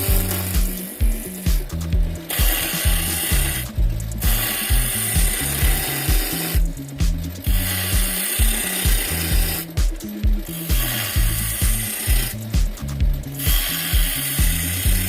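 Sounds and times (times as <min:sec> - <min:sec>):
background music with bass beat: 0:00.0 - 0:15.0
tool working wood: 0:00.0 - 0:15.0.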